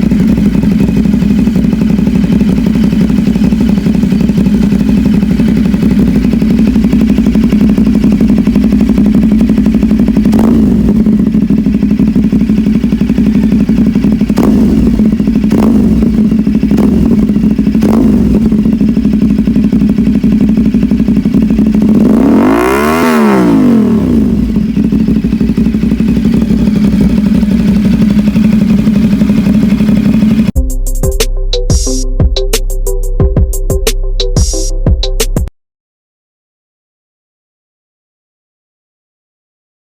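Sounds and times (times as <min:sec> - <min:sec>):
motorcycle engine idling and revving: 0:00.0 - 0:35.5.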